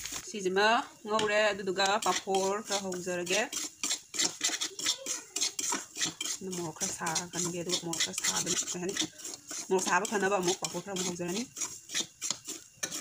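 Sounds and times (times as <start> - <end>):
metal spatula scraping a pan: 1.2 - 13.0.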